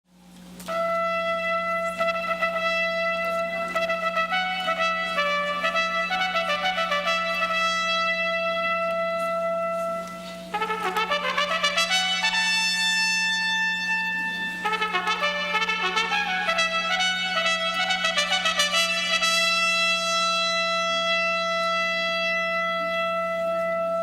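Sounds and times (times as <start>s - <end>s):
steady low hum: 0.1s - 24.0s
brass lead melody: 0.6s - 24.0s.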